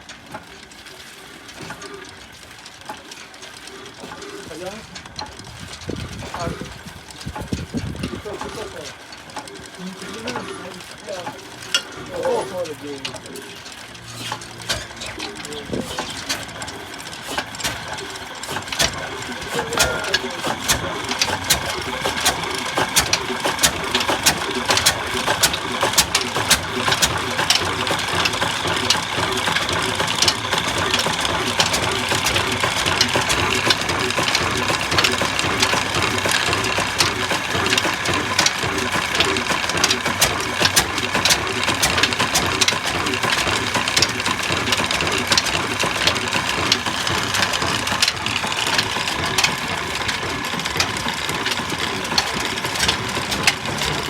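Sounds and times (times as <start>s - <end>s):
diesel engine knocking clatter: 0.0s - 54.0s.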